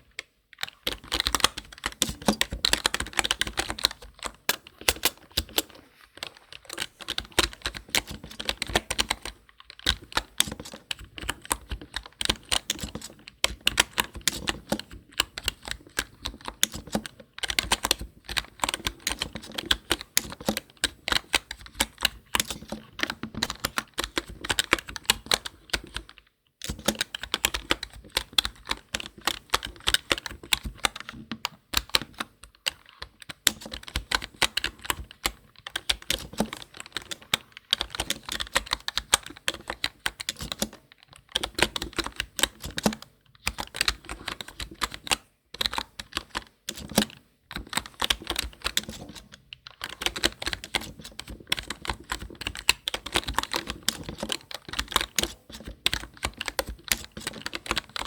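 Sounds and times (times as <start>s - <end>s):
fast typing on keyboard: 0.0s - 58.0s.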